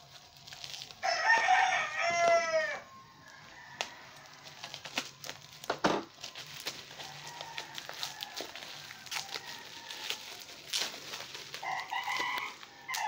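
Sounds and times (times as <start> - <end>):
scissors cutting plastic: 0.0 - 1.6, 3.2 - 13.0
plastic package crinkling: 0.0 - 13.0
rooster crowing: 1.0 - 5.5, 6.4 - 13.0.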